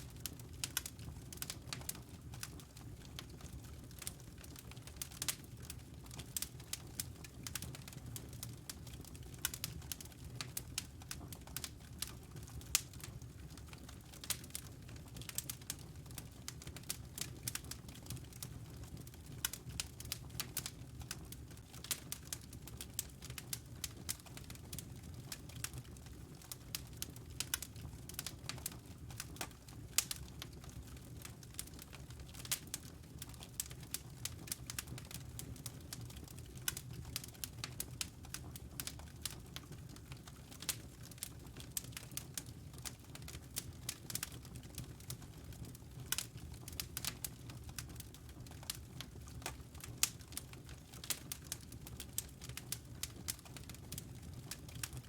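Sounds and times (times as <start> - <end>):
fire crackling and popping: 0.0 - 55.0
low hum of burning: 0.0 - 55.0.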